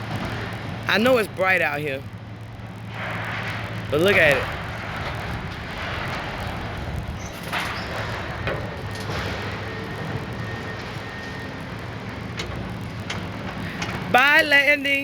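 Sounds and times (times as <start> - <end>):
low engine drone: 0.0 - 14.2.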